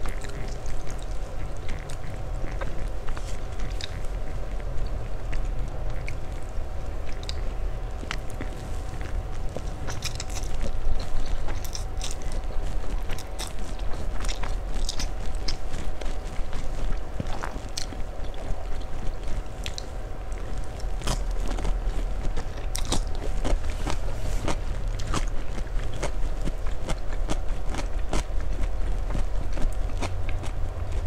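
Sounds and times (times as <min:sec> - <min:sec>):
low steady hum: 0:00.0 - 0:31.0
slurping and chewing noodles: 0:00.0 - 0:31.0.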